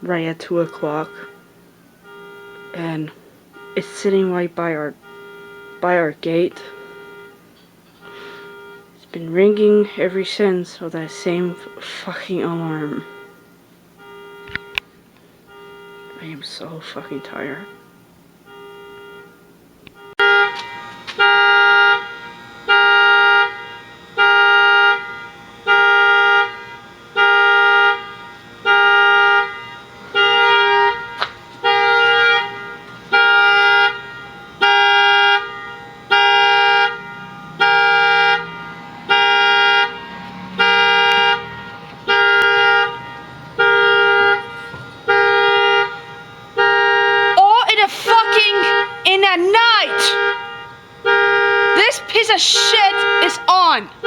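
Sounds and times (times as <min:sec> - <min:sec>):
car alarm horn blasts: 0:00.0 - 0:10.2, 0:11.0 - 0:54.0.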